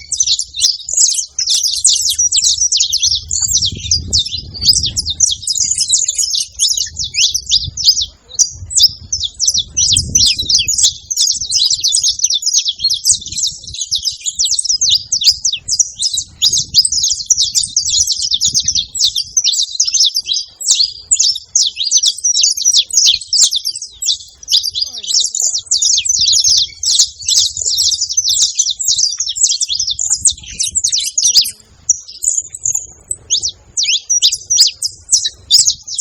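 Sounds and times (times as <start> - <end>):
bird singing high chirps and trills: 0.0 - 36.0.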